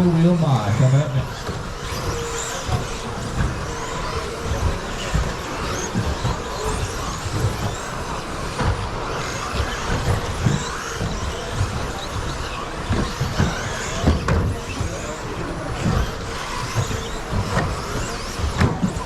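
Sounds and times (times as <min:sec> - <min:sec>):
rc truck motors whining: 0:00.0 - 0:19.0
tyre and drivetrain noise: 0:00.0 - 0:19.0.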